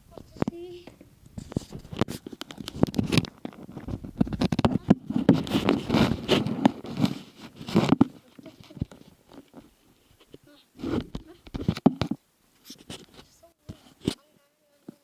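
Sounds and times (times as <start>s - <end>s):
scraping and clicking of containers: 1.4s - 14.2s.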